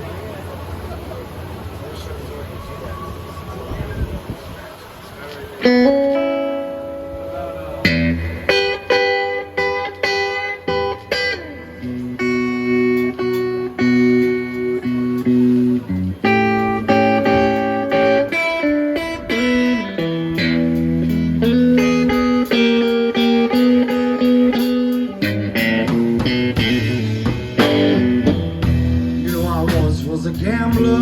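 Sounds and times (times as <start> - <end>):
blues guitar playing: 5.6 - 31.0.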